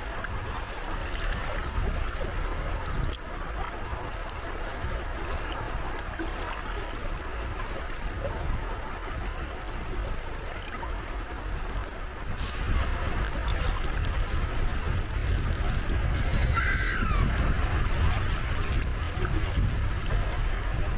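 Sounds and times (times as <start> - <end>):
sea waves lapping at shore: 0.0 - 20.9.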